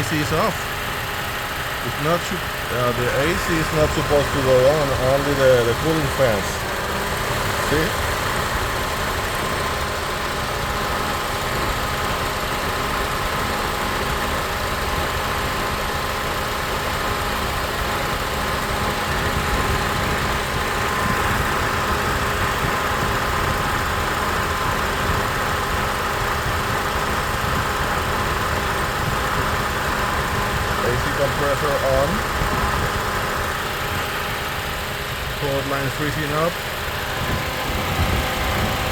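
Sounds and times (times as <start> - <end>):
car engine idling: 0.0 - 38.9
radiator cooling fans whirring: 0.0 - 38.9.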